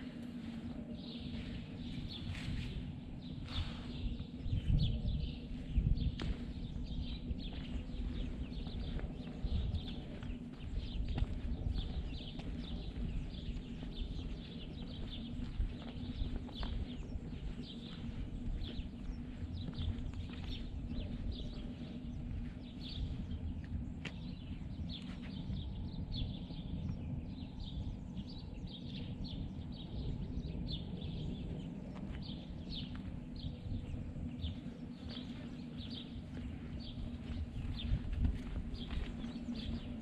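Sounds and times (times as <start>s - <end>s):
steady low rumble: 0.0s - 40.0s
wild birds chirping: 0.0s - 40.0s.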